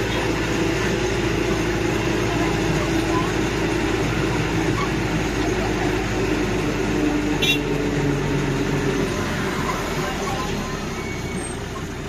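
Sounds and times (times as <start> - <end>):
land train engine running: 0.0 - 12.0
road noise: 0.0 - 12.0.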